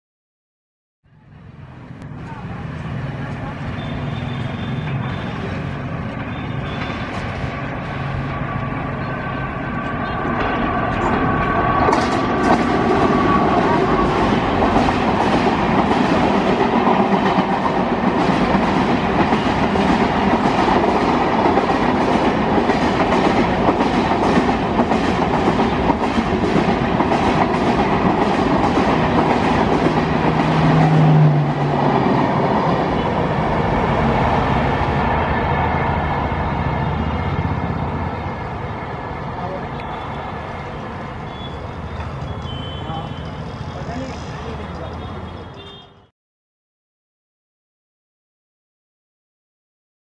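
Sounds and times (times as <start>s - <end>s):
electric locomotive whine: 1.1s - 45.8s.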